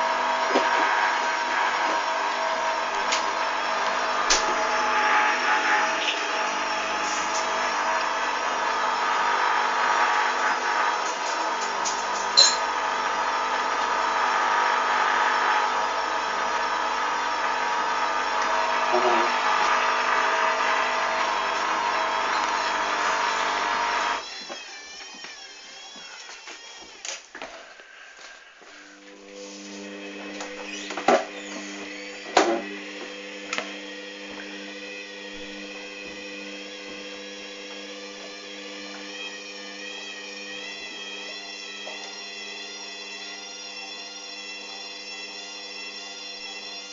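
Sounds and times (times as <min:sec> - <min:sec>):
washing machine motor hum: 0:00.0 - 0:24.3, 0:28.7 - 0:46.9.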